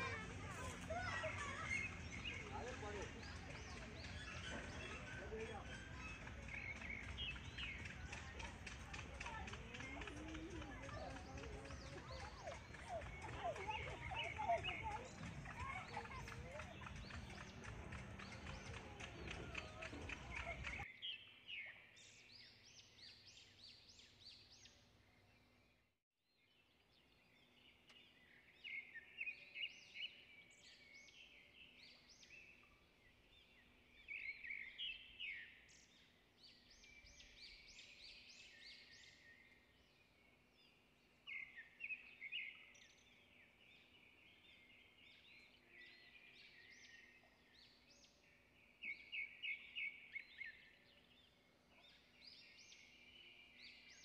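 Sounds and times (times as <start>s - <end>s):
birds chirping: 0.0s - 25.8s, 26.6s - 54.0s.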